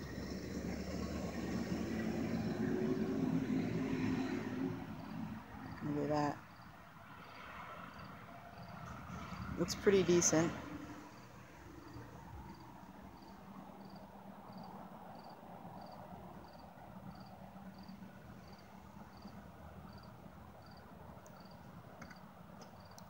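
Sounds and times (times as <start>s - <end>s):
cricket chirping: 0.0s - 23.0s.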